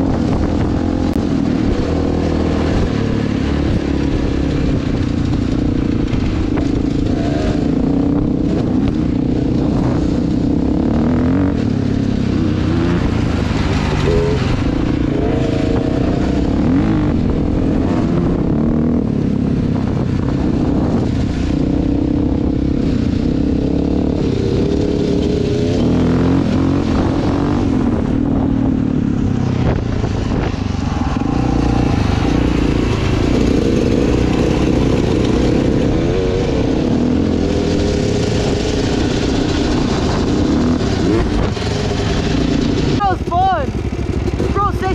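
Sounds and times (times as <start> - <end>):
dirt bike engine revving: 0.0 - 28.7, 29.6 - 44.9
rushing noise: 0.0 - 44.9.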